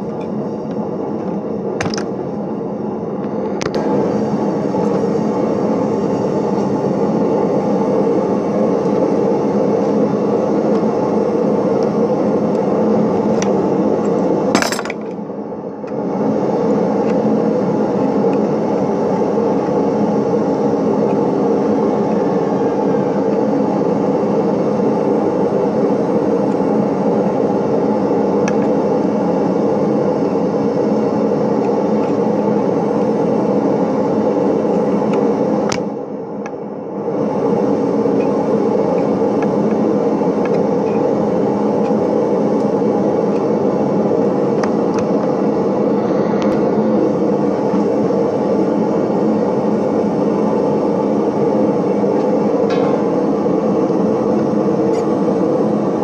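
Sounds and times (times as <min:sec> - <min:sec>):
loud mechanical drone: 0:00.0 - 0:56.0.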